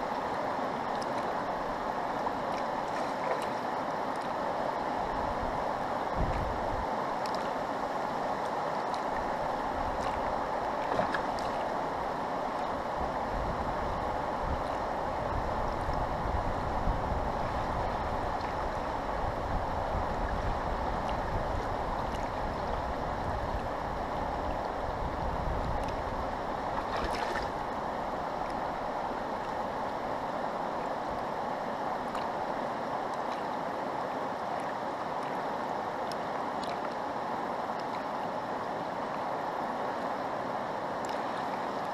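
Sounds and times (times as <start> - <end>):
fast-flowing river water: 0.0 - 41.9.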